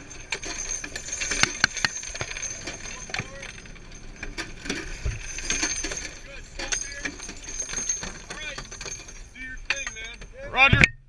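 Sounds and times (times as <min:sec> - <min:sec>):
loose metal clinking and rattling: 0:00.0 - 0:10.6.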